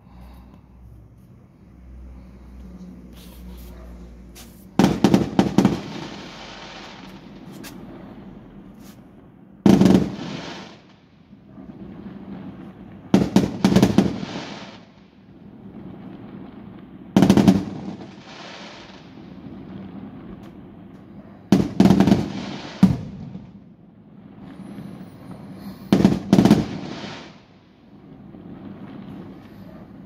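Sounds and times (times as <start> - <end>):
rolling echo of fireworks: 0.0 - 30.0
fireworks bangs and crackles: 1.4 - 30.0.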